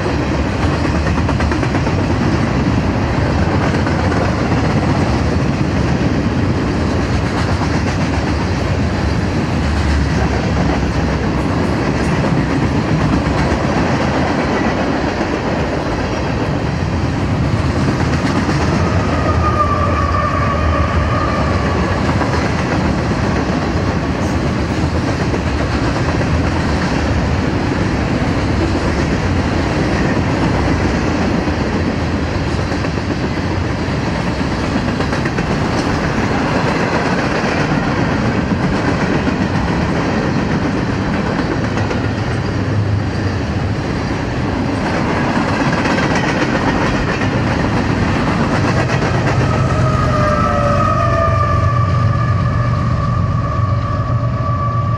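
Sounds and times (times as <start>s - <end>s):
freight train cars rolling past: 0.0s - 54.9s.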